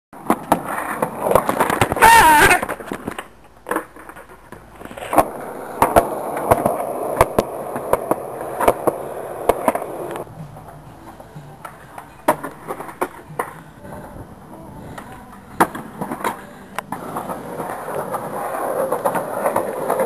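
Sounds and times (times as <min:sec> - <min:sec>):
skateboard wheels rolling: 0:00.2 - 0:20.0.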